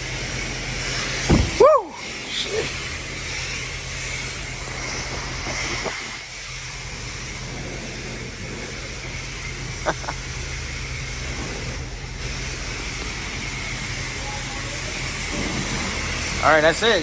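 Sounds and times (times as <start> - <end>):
pressure washer spray hissing: 0.0 - 17.0.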